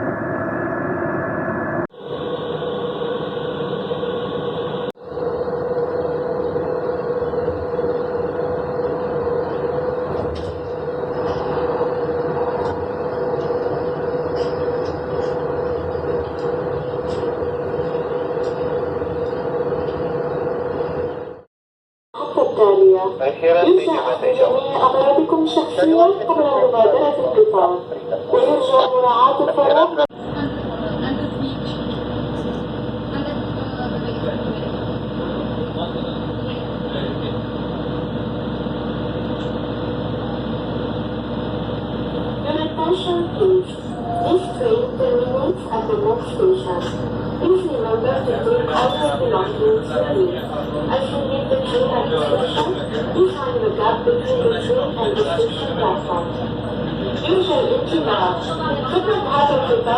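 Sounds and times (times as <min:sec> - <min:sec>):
constant whine: 0:00.0 - 0:21.5, 0:22.2 - 0:59.9
train rumble inside carriage: 0:01.7 - 0:21.5, 0:22.2 - 0:59.9.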